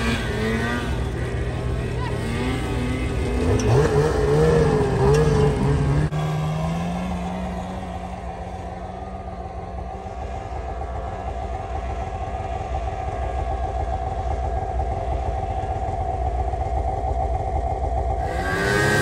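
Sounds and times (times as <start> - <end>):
snowmobile engine running hard: 0.0 - 19.0.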